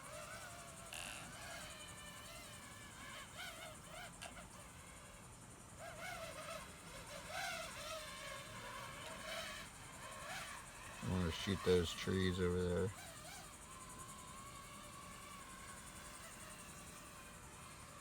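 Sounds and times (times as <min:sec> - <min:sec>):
drone motors whining: 0:00.0 - 0:05.2, 0:05.8 - 0:18.0.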